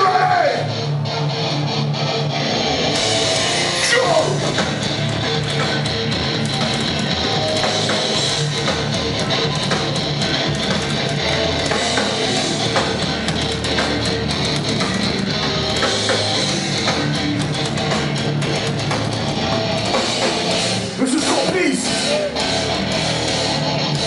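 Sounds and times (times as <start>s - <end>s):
punk band playing live: 0.0s - 24.0s.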